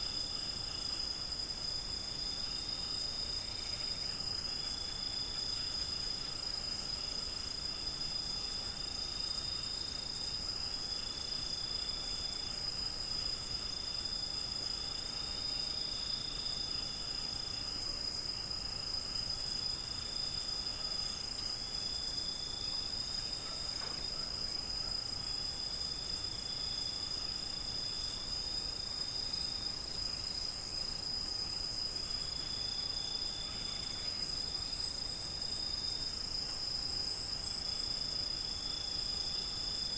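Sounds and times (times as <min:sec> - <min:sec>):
crickets high steady trill: 0:00.0 - 0:39.9
lower cricket trill: 0:00.0 - 0:39.9.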